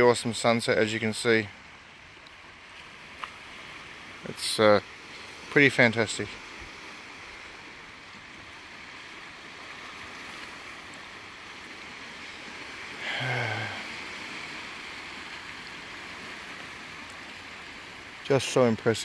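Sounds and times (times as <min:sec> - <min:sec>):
small waves on rocky shore: 0:00.0 - 0:19.0.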